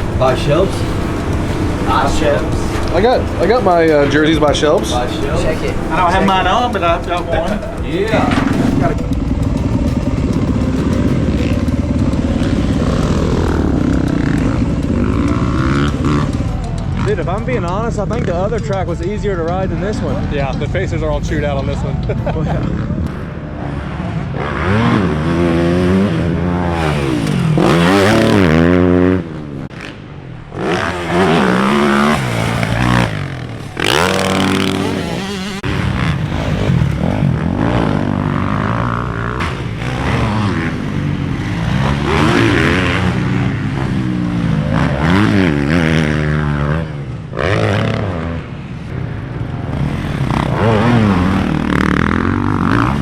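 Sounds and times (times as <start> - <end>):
dirt bike motor revving: 0.0 - 21.7, 22.6 - 53.0.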